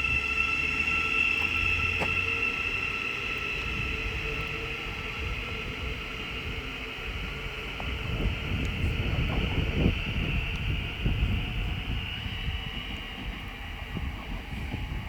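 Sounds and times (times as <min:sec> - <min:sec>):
electric train pulling out: 0:00.0 - 0:15.0.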